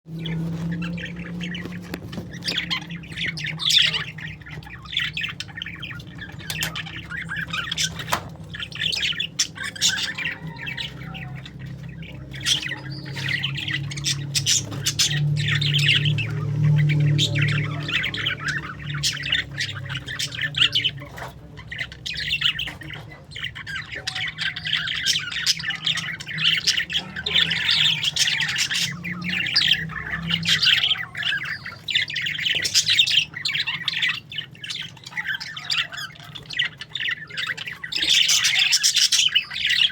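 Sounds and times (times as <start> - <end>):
parakeets chattering: 0.1 - 39.9.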